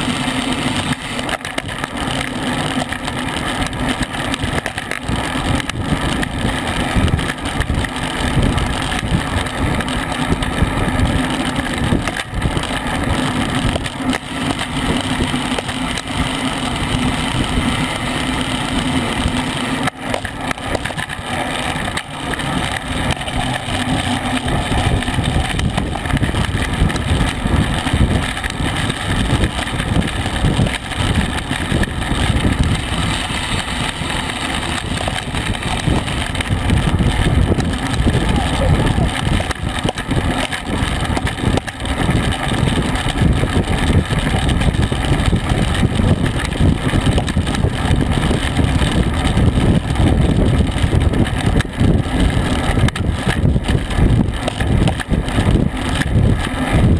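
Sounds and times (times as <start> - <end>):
tyres rumbling on concrete: 0.0 - 56.9
wind buffeting microphone: 3.2 - 56.9.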